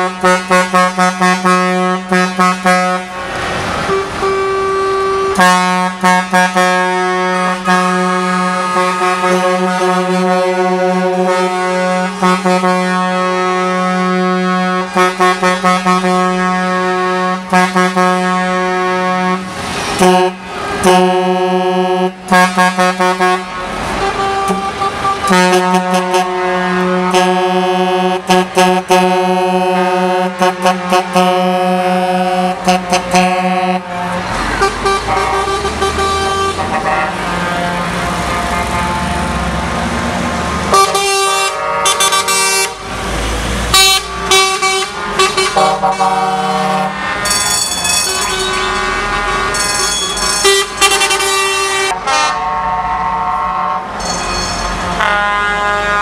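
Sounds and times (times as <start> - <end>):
truck air horns blowing: 0.0 - 43.0, 43.7 - 56.0
truck engine and road noise: 0.0 - 56.0.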